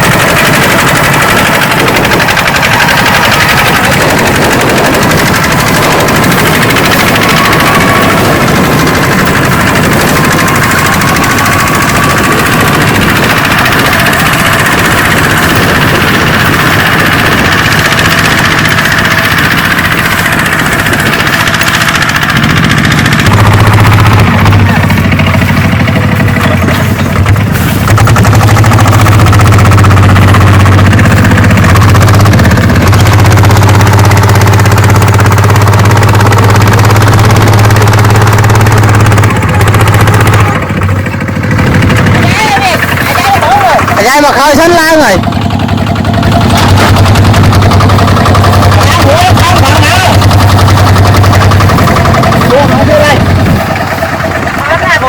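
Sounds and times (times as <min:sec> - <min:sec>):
combine harvester rattling clatter: 0:00.0 - 0:55.0
deep engine hum: 0:00.0 - 0:55.0.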